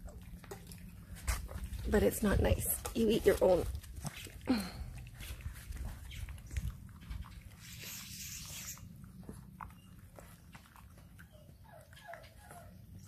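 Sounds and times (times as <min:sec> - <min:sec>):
puppy chewing and lapping: 0:00.0 - 0:13.0.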